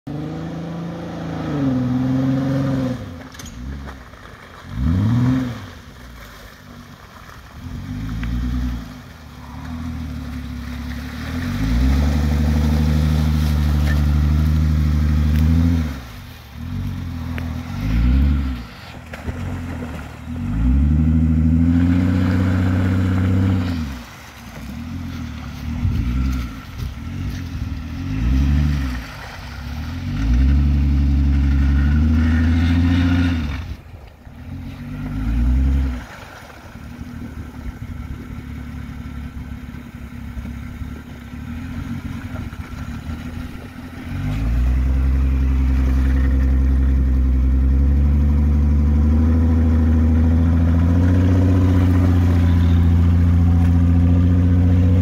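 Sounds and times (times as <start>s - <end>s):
car engine revving: 0.0s - 6.0s, 6.6s - 55.0s.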